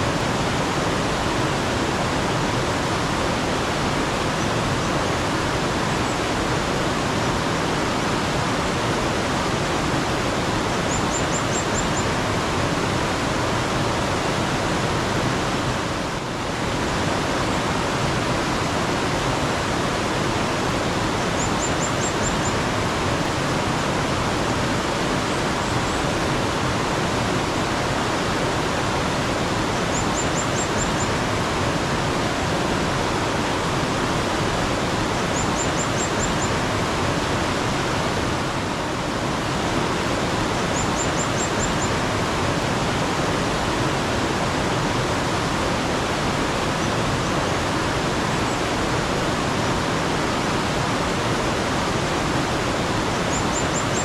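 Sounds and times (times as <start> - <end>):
flowing stream water: 0.0 - 54.0.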